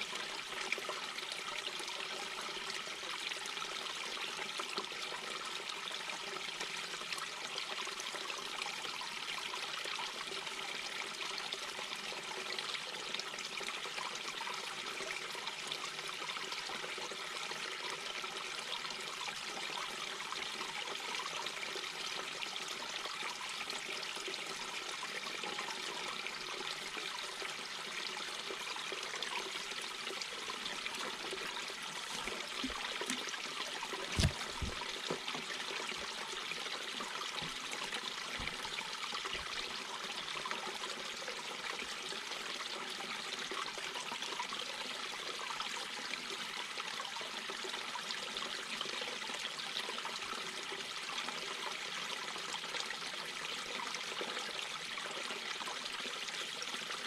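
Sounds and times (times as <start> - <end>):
brook trickling over stones: 0.0 - 57.0.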